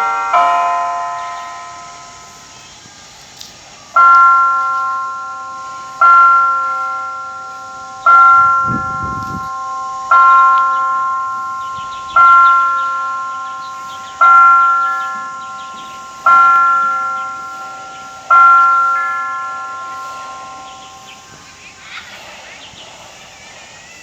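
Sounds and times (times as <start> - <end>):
tower bell ringing: 0.0 - 22.4.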